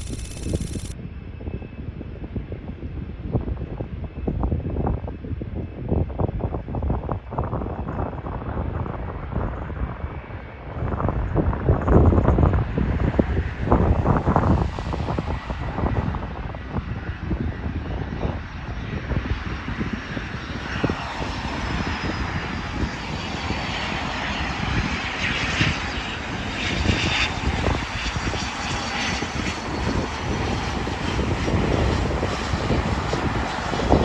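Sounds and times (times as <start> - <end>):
jet engine whine: 0.0 - 3.2, 8.2 - 34.0
wind rumble on microphone: 0.0 - 34.0.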